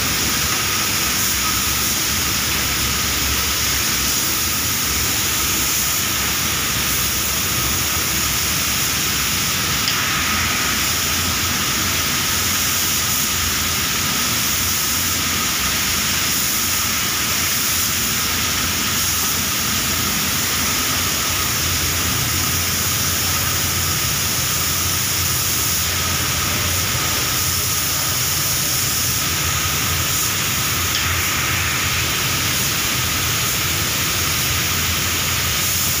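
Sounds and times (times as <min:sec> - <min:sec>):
air extraction rushing hiss: 0:00.0 - 0:36.0
spray gun spraying: 0:00.0 - 0:36.0.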